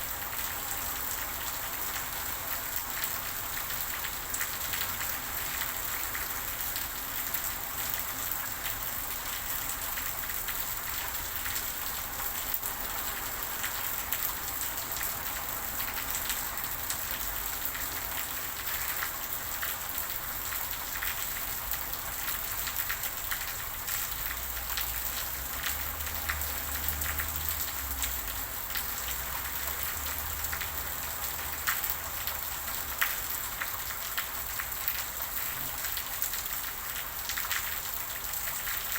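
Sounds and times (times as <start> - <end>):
steady rain pattering: 0.0 - 38.9.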